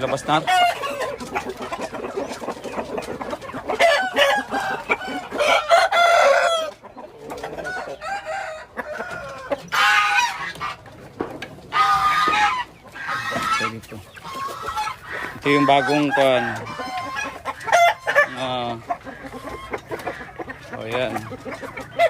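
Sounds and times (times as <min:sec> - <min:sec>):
chickens clucking: 0:00.0 - 0:22.0
roosters crowing: 0:00.0 - 0:22.0.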